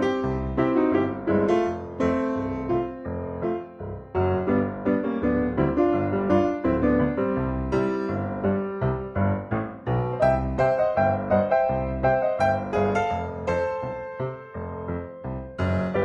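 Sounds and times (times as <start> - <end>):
bouncy piano music: 0.0 - 16.0.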